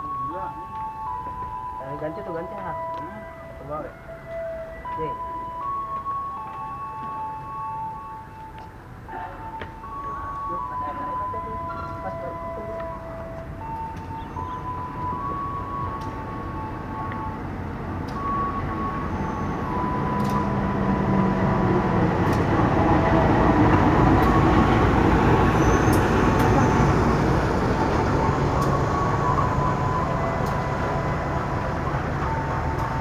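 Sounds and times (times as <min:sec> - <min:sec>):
train passing rumble: 0:00.0 - 0:33.0.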